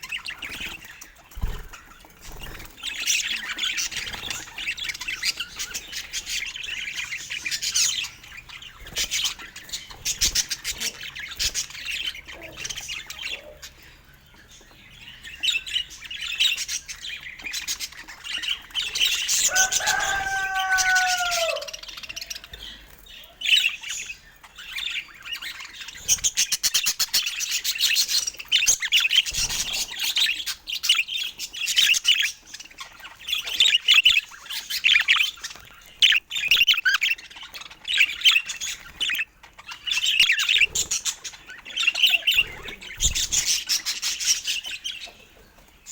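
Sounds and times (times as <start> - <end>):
budgerigars chirping and chattering: 0.0 - 45.9.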